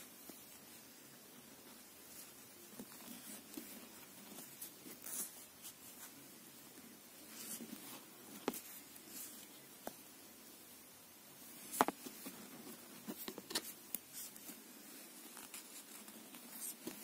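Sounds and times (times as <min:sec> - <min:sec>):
yarn rustling: 0:00.0 - 0:10.0, 0:11.4 - 0:17.0.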